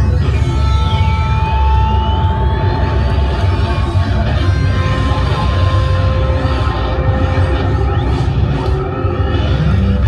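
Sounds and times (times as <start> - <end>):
loud noise music: 0.0 - 10.0.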